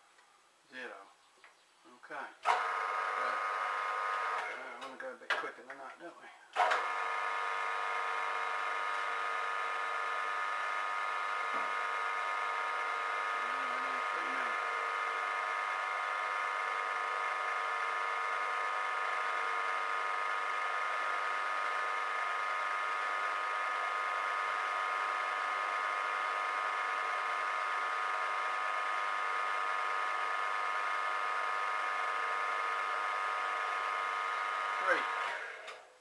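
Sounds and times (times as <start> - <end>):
milling machine whine: 2.5 - 4.7, 6.6 - 35.8
end mill cutting metal: 6.6 - 35.8.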